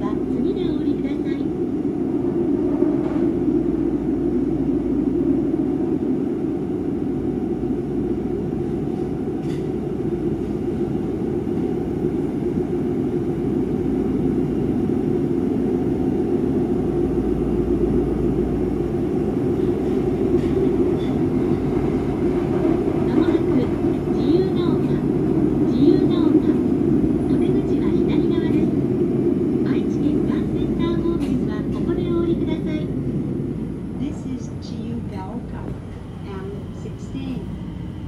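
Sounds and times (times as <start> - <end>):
train rumbling in a tunnel: 0.0 - 38.0.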